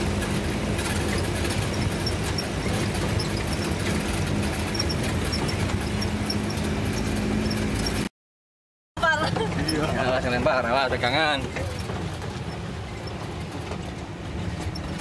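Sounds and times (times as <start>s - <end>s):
car engine running: 0.0s - 8.1s, 9.0s - 15.0s.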